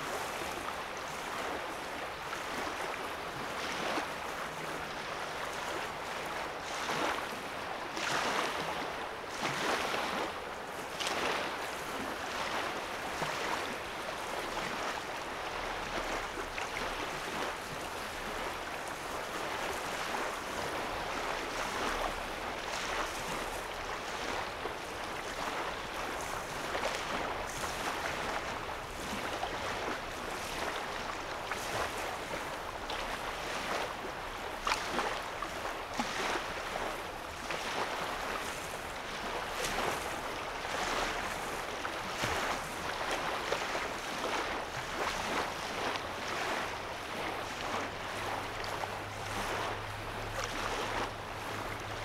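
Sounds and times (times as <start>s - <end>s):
soft water splashes: 0.0s - 52.0s
waves lapping at shore: 0.0s - 52.0s.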